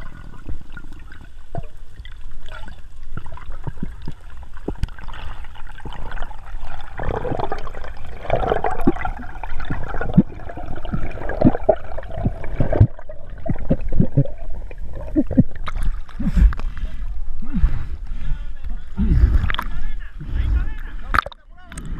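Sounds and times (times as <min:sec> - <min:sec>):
water gurgling underwater: 0:00.0 - 0:17.9, 0:19.0 - 0:19.7, 0:21.1 - 0:21.4.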